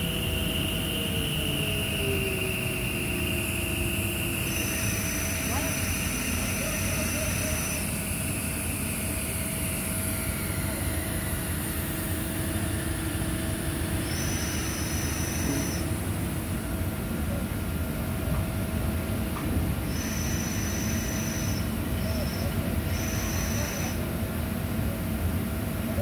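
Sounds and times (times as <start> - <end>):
thin high whine: 0.0 - 16.6, 19.8 - 24.1
drilling rig machinery drone: 0.0 - 26.0.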